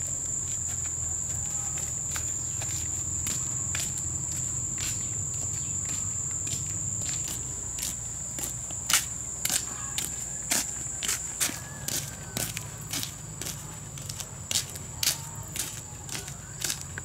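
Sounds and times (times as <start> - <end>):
insects droning: 0.0 - 17.0
sandal footsteps on concrete: 0.3 - 17.0.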